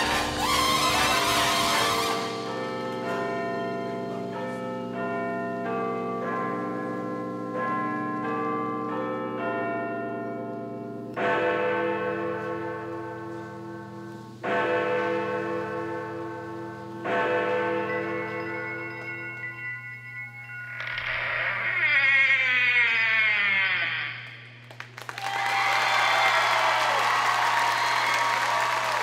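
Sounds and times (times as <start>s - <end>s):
slow melody of ringing notes: 0.2s - 24.6s.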